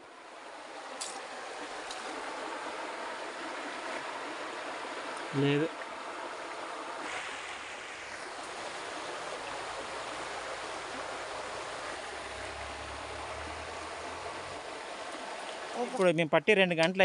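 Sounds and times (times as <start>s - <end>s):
stream water rushing over rocks: 0.0s - 16.2s.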